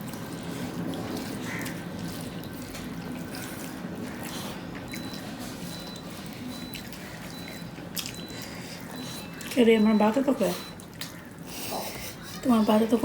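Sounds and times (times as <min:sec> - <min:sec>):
wet squishy eating by hand: 0:00.0 - 0:13.0.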